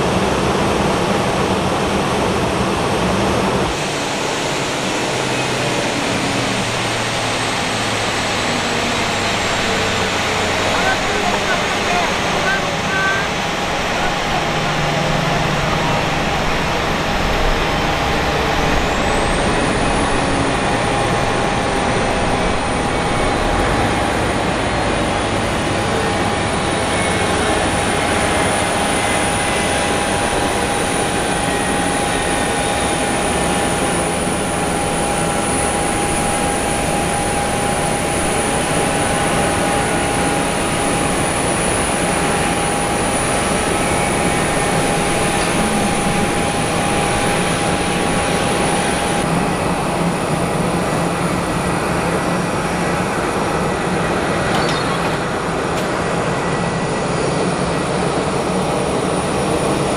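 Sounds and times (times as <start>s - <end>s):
high turbine whine: 0.0s - 59.9s
jet turbine roaring: 0.0s - 59.9s.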